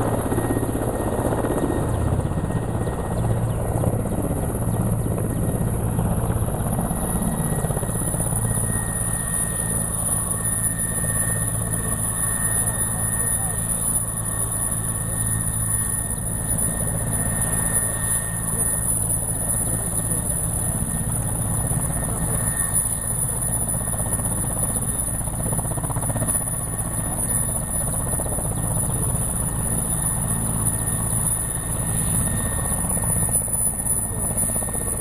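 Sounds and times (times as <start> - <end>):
helicopter rotor and engine drone: 0.0 - 35.0.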